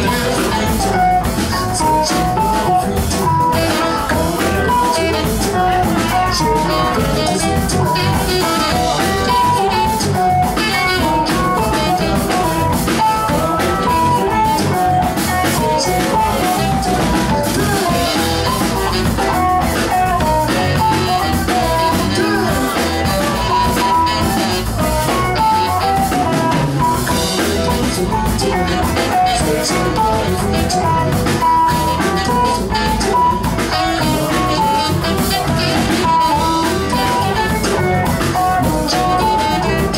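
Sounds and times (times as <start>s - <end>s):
latin rock band playing live: 0.0s - 39.9s.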